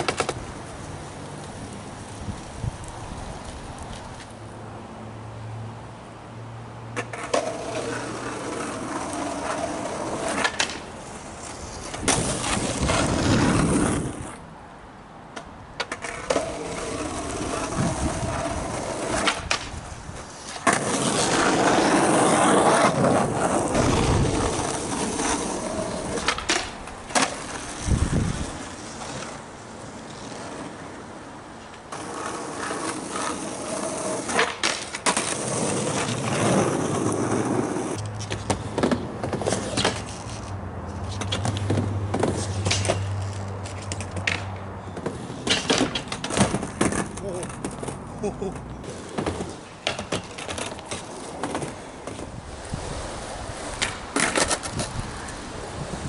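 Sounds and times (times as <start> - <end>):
skateboard clacking on ground: 0.0 - 4.4, 6.9 - 14.4, 15.3 - 56.0
skateboard wheels rolling on asphalt: 0.0 - 56.0.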